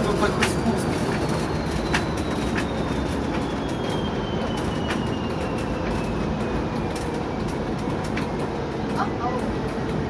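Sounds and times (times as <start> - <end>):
diesel locomotive rumbling: 0.0 - 10.0.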